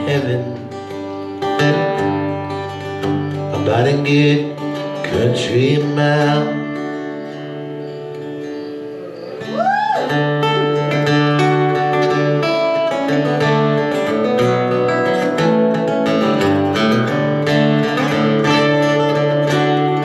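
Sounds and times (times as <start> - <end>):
acoustic guitar strumming: 0.0 - 20.0
lead guitar melody: 0.0 - 20.0.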